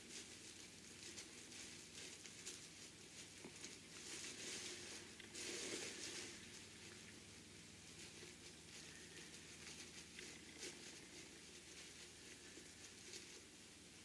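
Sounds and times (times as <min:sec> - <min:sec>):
fabric rustling and crinkling: 0:00.0 - 0:14.0.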